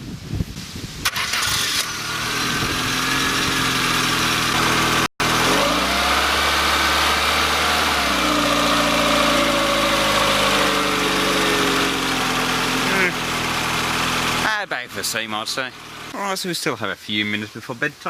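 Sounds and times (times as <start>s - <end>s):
car engine idling and revving: 1.1s - 16.2s.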